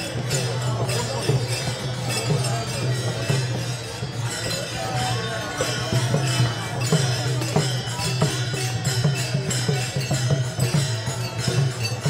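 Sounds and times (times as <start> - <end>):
hand cymbals clashing: 0.0 - 12.0
drum strokes: 0.1 - 12.0.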